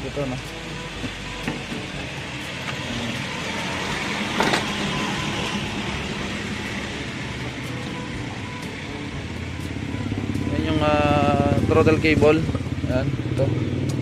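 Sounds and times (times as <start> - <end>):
motor vehicle passing: 0.9 - 14.0.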